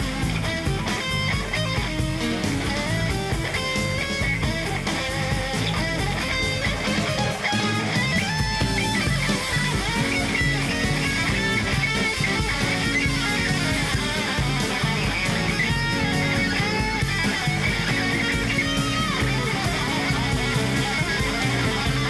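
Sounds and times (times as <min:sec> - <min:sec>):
drums: 0:00.0 - 0:22.0
electric bass: 0:00.0 - 0:22.0
electric guitar: 0:00.0 - 0:22.0
keyboards: 0:00.0 - 0:22.0.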